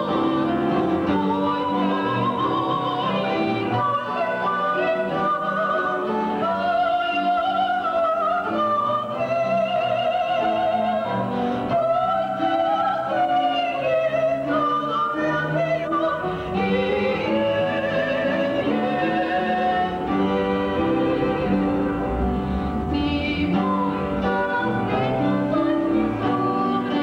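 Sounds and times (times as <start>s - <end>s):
women singing gospel duet: 0.0s - 21.9s, 22.8s - 27.0s
instrumental accompaniment: 0.0s - 27.0s.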